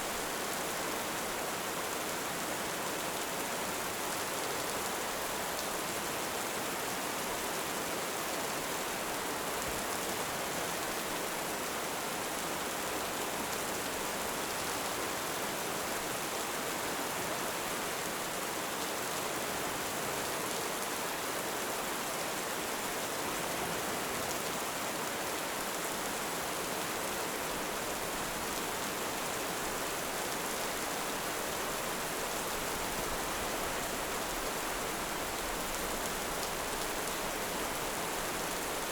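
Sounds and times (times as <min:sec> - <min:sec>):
heavy rain: 0:06.9 - 0:38.9.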